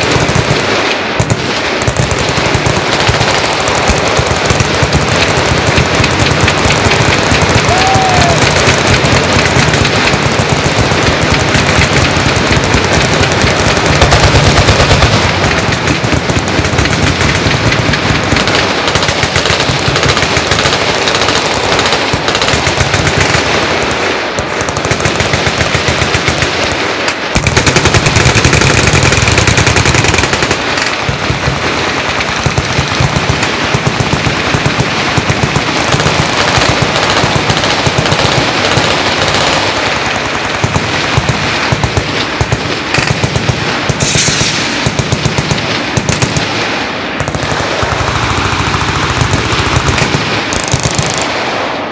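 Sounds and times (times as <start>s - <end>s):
machine guns firing: 0.0s - 51.9s.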